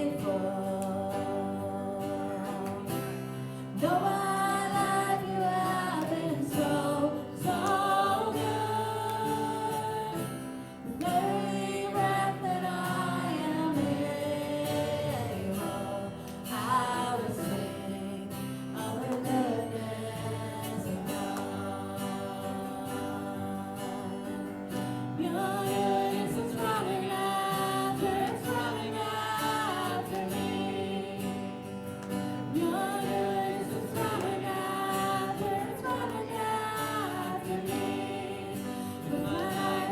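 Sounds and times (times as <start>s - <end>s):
guitar accompaniment: 0.0s - 39.9s
voices singing together: 0.0s - 39.9s.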